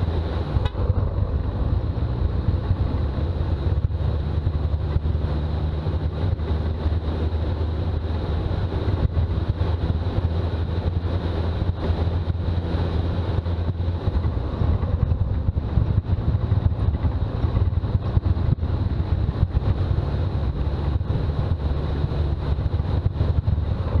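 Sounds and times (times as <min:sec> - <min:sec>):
diesel engine driving: 0:00.0 - 0:24.0
road noise: 0:00.0 - 0:24.0.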